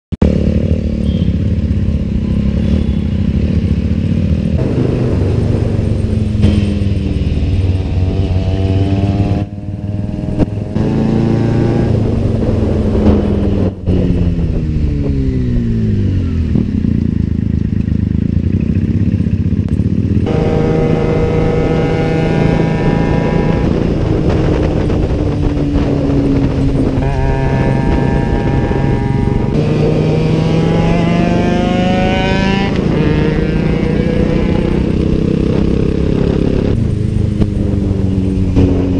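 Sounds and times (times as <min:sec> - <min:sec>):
motorcycle engine revving: 0:00.2 - 0:38.9.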